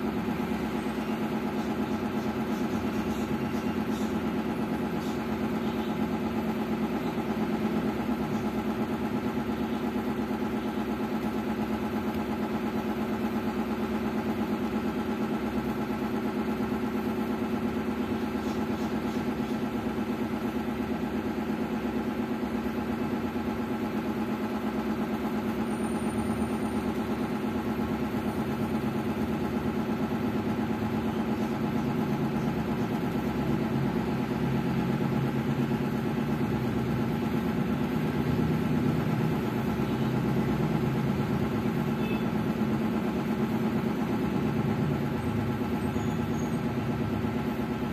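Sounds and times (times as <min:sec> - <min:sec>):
motor humming: 0:00.0 - 0:47.9.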